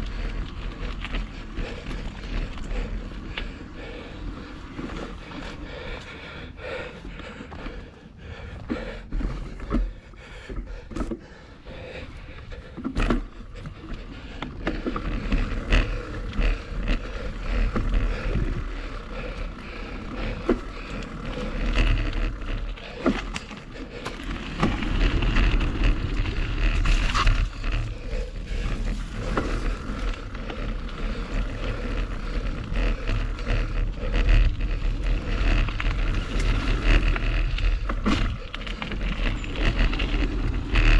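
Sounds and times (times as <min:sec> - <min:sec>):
bike rattling over bumps: 0:00.0 - 0:40.9
bike tyres on dirt: 0:00.0 - 0:40.9.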